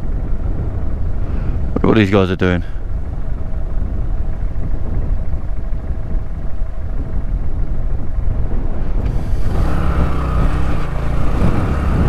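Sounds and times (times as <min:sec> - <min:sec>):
motorcycle engine running: 0:00.0 - 0:01.8, 0:02.8 - 0:12.0
wind rumble on microphone: 0:00.0 - 0:12.0.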